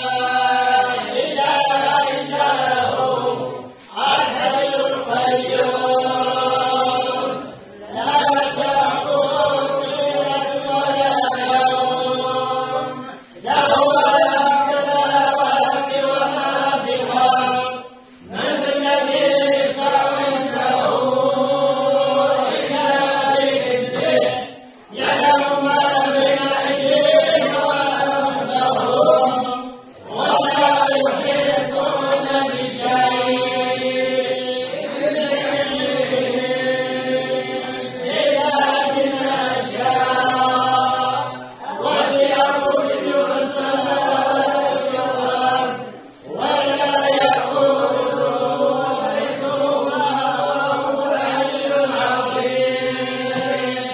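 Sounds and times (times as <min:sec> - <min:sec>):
men chanting in unison: 0:00.0 - 0:53.9.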